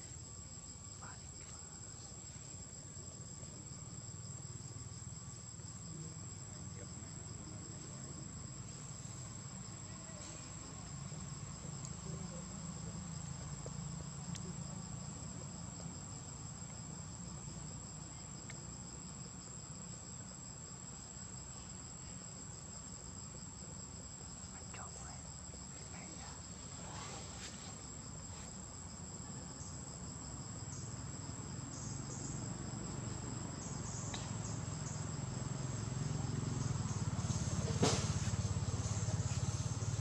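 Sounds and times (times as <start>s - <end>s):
pulsing insect trill: 0.0s - 40.0s.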